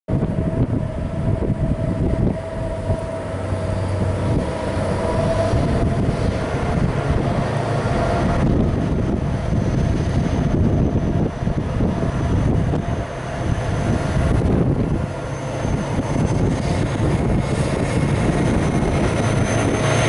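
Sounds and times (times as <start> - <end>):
locomotive engine rumble: 0.1 - 20.0
steady whine: 0.1 - 20.0.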